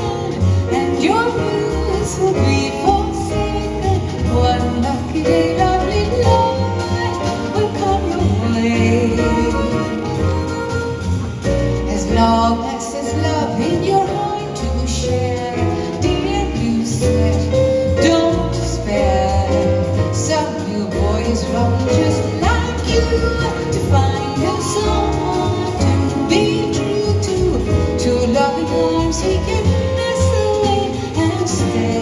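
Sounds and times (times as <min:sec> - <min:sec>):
double bass: 0:00.0 - 0:32.0
drums: 0:00.0 - 0:32.0
piano: 0:00.0 - 0:32.0
woman singing: 0:00.0 - 0:32.0.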